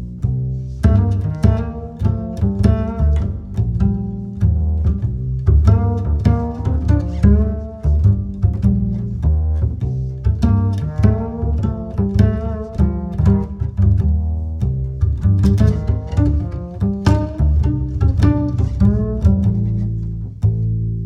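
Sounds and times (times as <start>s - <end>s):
deep bass line: 0.0s - 21.0s
string instruments: 0.0s - 21.0s.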